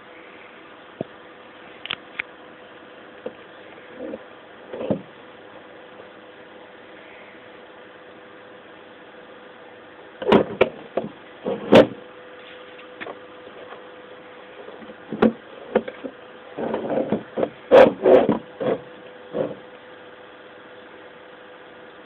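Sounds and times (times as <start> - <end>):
faint hiss and hum: 0.0 - 22.0.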